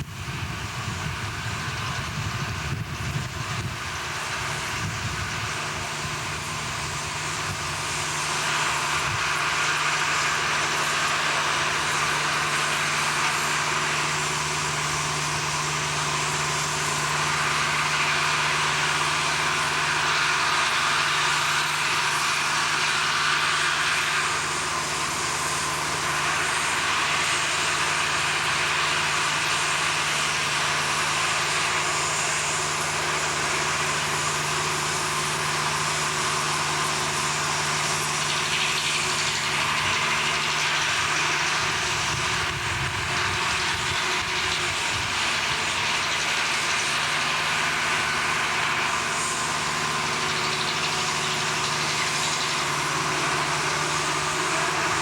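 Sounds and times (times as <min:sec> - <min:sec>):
machinery humming and hissing: 0:00.0 - 0:55.0.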